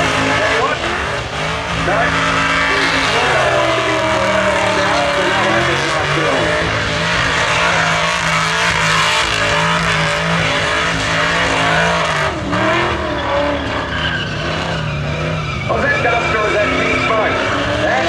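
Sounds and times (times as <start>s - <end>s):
car engine revving high: 0.0s - 18.0s
tyres spinning and screeching: 0.0s - 18.0s.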